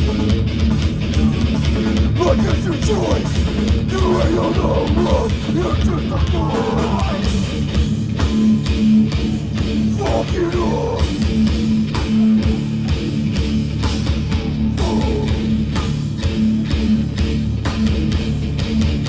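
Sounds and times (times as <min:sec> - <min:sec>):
hardcore band playing live: 0:00.0 - 0:19.0.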